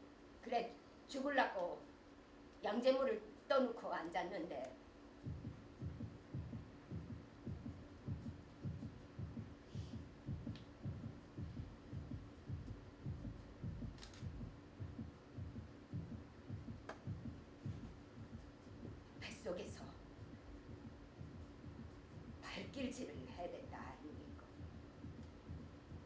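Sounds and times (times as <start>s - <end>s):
faint hum: 0.0s - 26.0s
heartbeat thumping: 5.1s - 26.0s.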